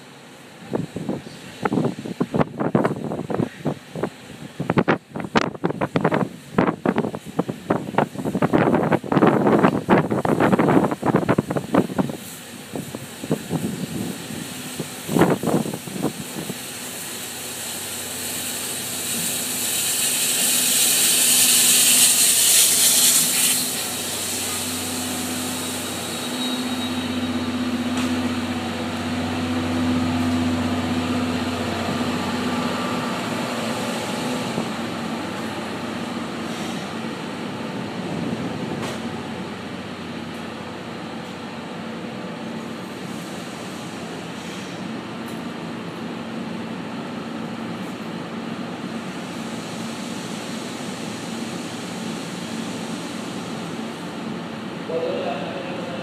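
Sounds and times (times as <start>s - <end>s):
loud high steam hiss: 0.0s - 56.0s.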